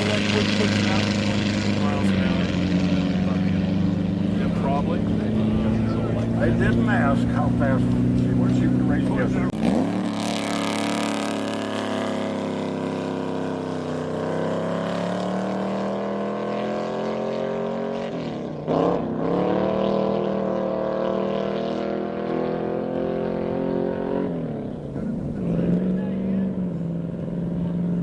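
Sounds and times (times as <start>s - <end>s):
race car engine revving high: 0.0s - 28.0s.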